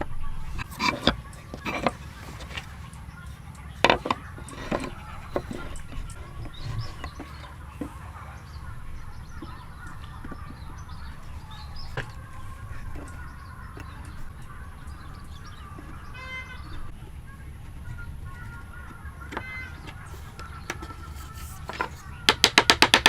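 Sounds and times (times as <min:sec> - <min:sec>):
steady low rumble: 0:00.0 - 0:20.7.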